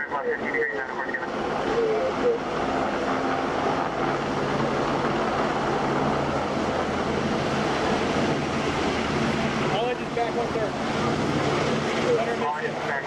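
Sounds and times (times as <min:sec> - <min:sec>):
low machinery hum: 0:00.0 - 0:13.0
machinery rushing noise: 0:00.0 - 0:13.0.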